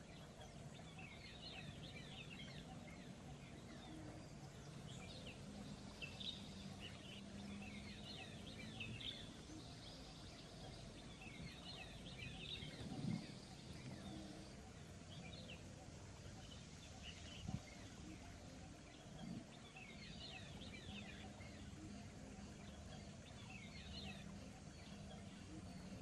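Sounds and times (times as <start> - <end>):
low background noise: 0.0 - 26.0
small birds chirping: 0.0 - 26.0.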